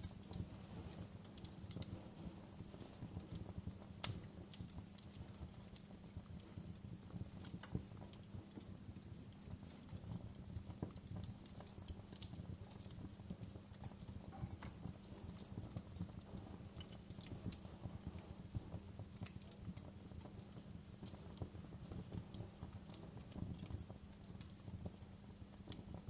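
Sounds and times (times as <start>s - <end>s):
fire crackling and popping: 0.0s - 26.0s
low rumble of burning logs: 0.0s - 26.0s.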